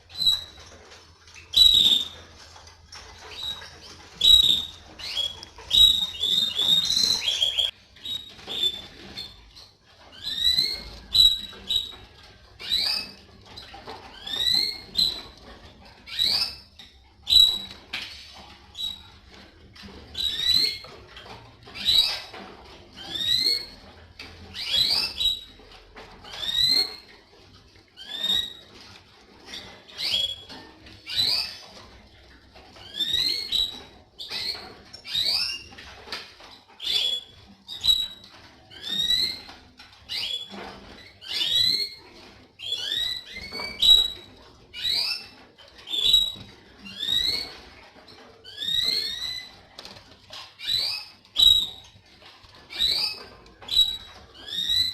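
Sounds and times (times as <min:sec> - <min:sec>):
canary chirping: 0:00.0 - 0:54.9.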